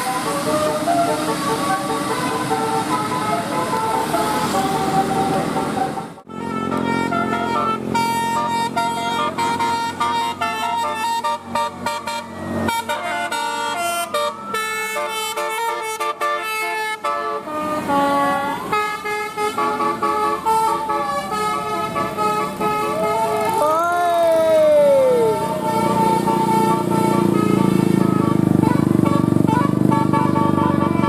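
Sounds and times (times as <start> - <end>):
bus air horns tooting melodies: 0.0 - 31.0.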